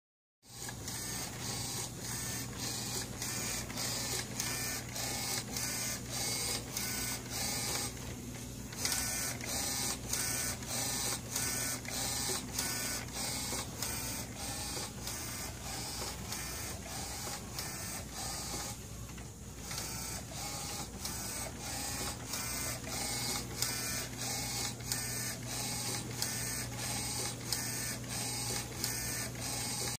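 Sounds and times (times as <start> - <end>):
printer hum: 0.5 - 30.0.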